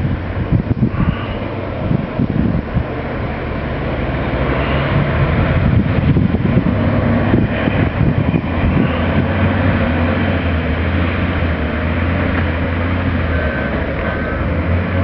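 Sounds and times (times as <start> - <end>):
diesel machinery engine drone: 0.0 - 15.0.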